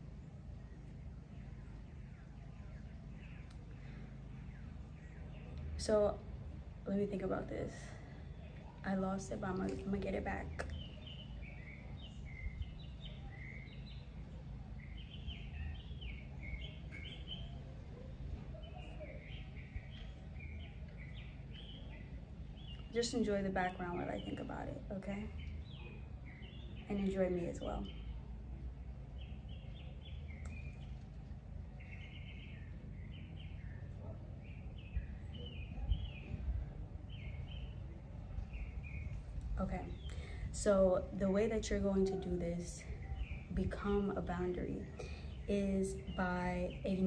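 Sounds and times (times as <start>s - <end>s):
birds chirping and trilling: 0.0s - 47.0s
low background rumble: 0.0s - 47.0s.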